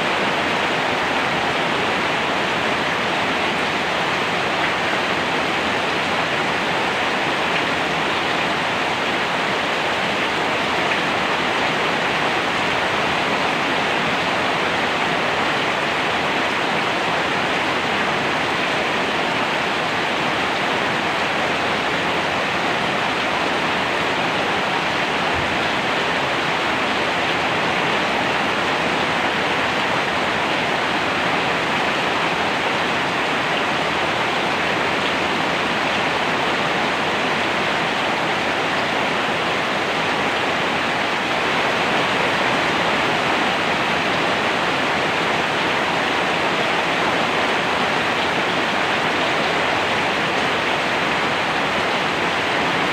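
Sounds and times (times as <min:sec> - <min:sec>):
steady rain hiss: 0:00.0 - 0:52.9.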